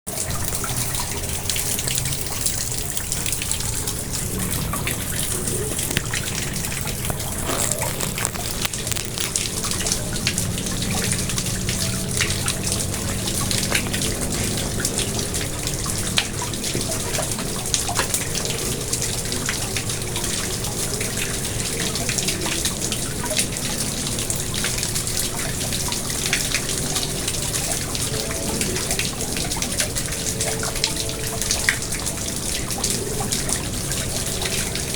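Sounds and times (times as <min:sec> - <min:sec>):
pond water splashing and trickling: 0:00.1 - 0:34.9
small water drips: 0:00.1 - 0:34.9.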